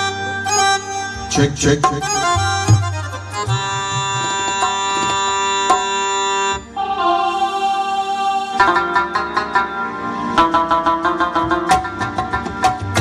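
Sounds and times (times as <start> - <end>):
electronic keyboard accordion sound: 0.0 - 13.0.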